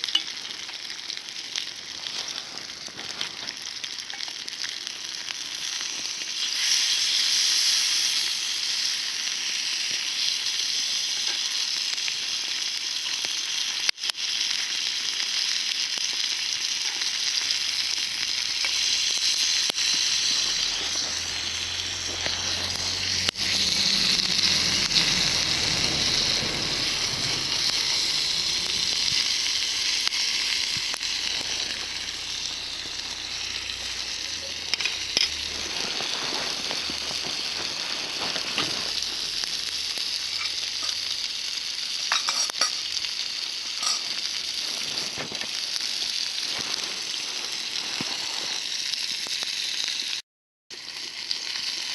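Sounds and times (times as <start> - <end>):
food sizzling in a pan: 0.0 - 51.9.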